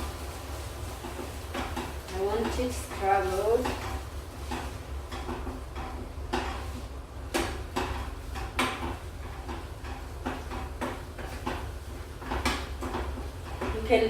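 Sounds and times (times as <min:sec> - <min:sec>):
utensil scraping frying pan: 0:00.0 - 0:14.0.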